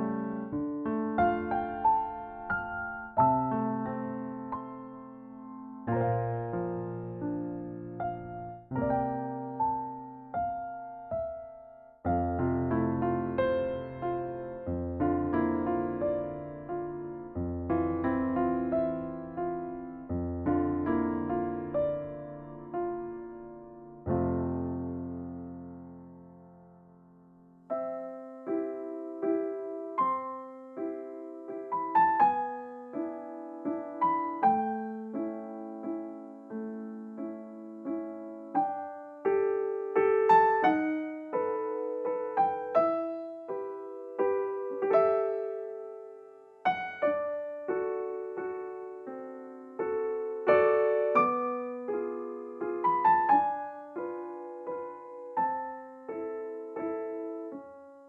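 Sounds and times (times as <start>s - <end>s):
soft solo piano: 0.0s - 58.0s.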